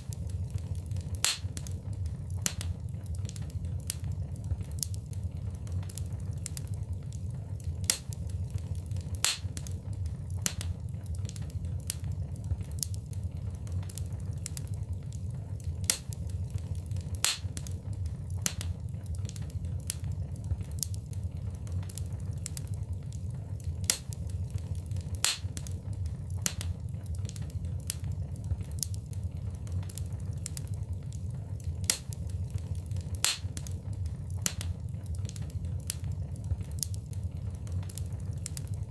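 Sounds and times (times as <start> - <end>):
low rumble: 0.0 - 38.9
wood fire crackling: 0.0 - 38.9.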